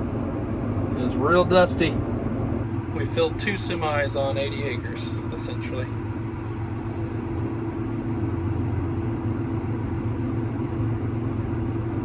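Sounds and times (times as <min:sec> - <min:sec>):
combine harvester engine hum: 0:00.0 - 0:12.0.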